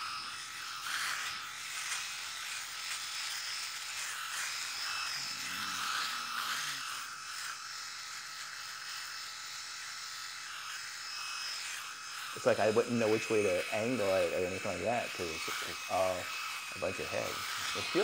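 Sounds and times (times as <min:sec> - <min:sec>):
electric shaver buzzing: 0:00.0 - 0:18.0.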